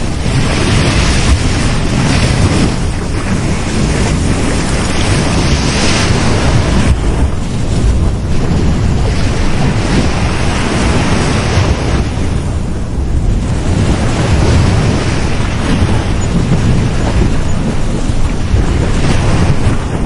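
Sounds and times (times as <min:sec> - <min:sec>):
ocean waves breaking on beach: 0:00.0 - 0:20.0
wind buffeting microphone: 0:00.0 - 0:20.0.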